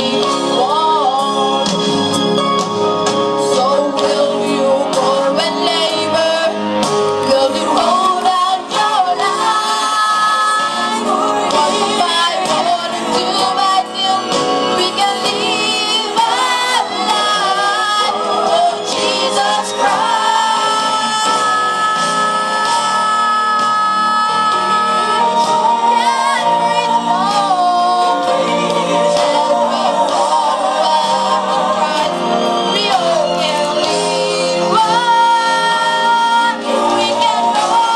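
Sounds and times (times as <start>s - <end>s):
instrumental accompaniment: 0.0s - 37.9s
voices singing gospel song: 0.0s - 37.9s.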